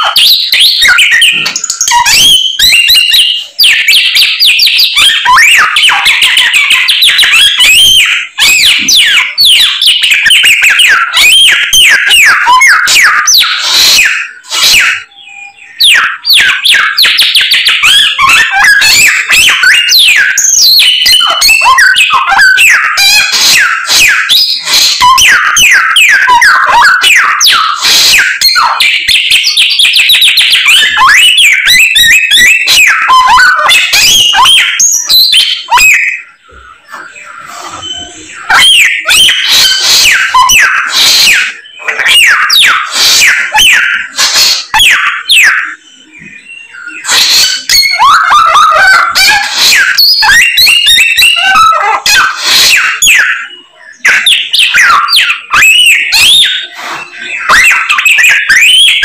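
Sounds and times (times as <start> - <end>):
songbird whistles and chirps: 0.0 - 59.0.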